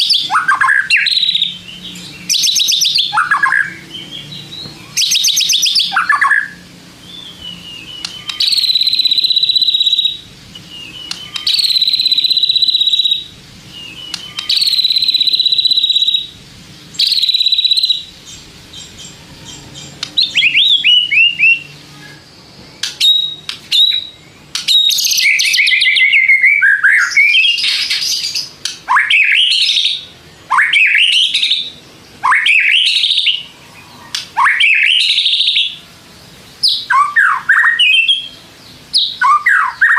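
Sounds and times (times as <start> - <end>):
bird singing whistled notes: 0.0 - 35.8, 36.6 - 39.9.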